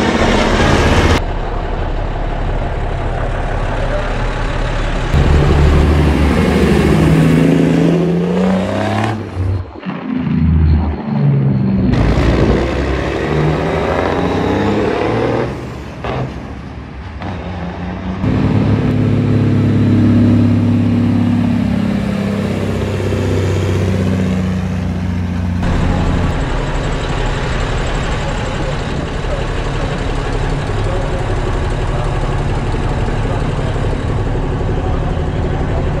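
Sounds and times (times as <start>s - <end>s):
truck diesel engines revving: 0.0s - 36.0s.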